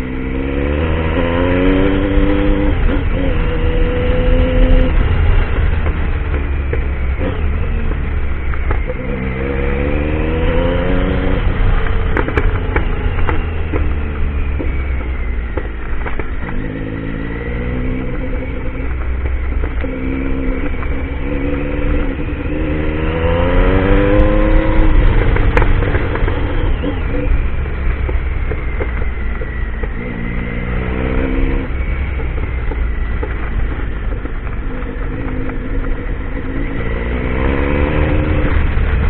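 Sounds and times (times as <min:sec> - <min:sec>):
motorcycle engine accelerating: 0:00.0 - 0:39.0
rumble of wind and rough ground: 0:00.0 - 0:39.0.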